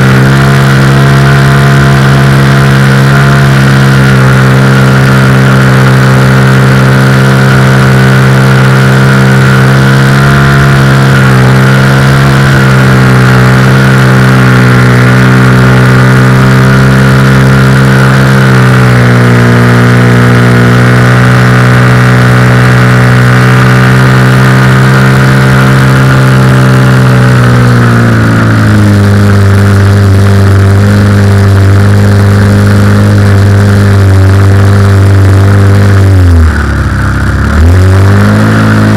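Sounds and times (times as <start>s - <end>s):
model aircraft motor and propeller: 0.0s - 38.9s.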